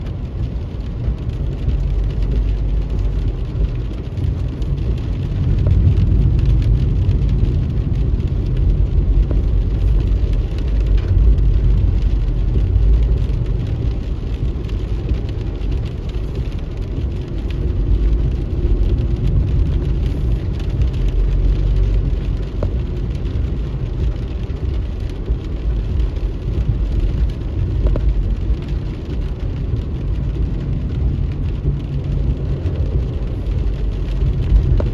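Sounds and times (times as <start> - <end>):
car engine and tyres on wet road: 0.0 - 34.9
rain patter: 0.0 - 34.9.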